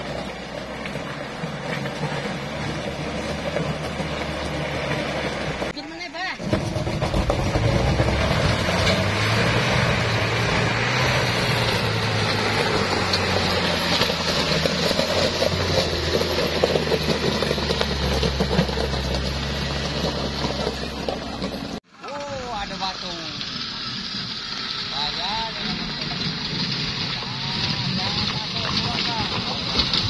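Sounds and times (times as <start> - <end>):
tyres crunching over stones: 0.0 - 5.8, 6.5 - 22.4, 24.9 - 30.0
engine working uphill: 0.0 - 30.0.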